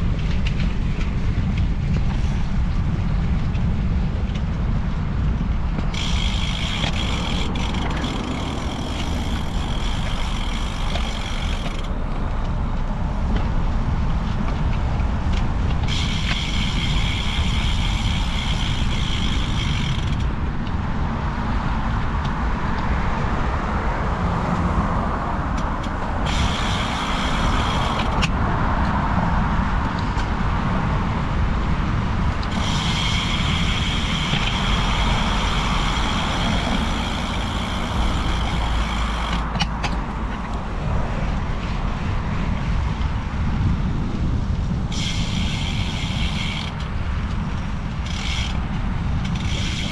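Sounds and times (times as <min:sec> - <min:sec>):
wind rushing over microphone: 0:00.0 - 0:49.9
bicycle freehub buzzing: 0:00.1 - 0:24.4, 0:25.3 - 0:49.9.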